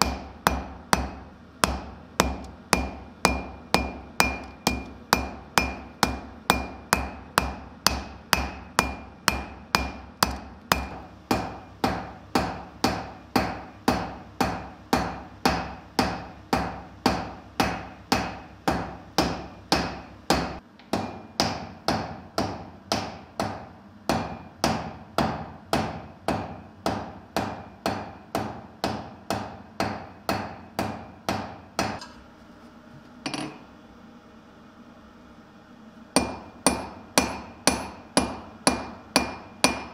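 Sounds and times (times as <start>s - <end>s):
hammer striking steel on anvil: 0.0s - 32.2s, 33.2s - 33.6s, 36.2s - 39.9s.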